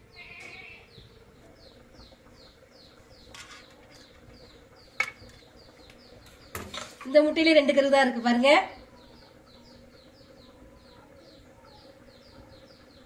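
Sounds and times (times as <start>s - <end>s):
small bird chirping: 0.1s - 7.0s, 8.7s - 13.0s.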